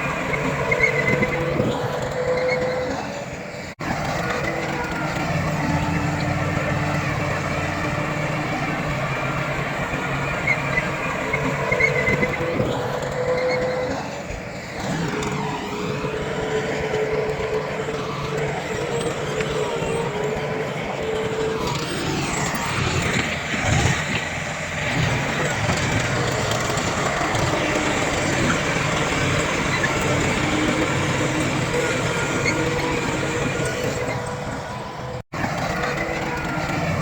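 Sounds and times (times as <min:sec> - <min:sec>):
diesel machinery engines running: 0:00.0 - 0:37.0.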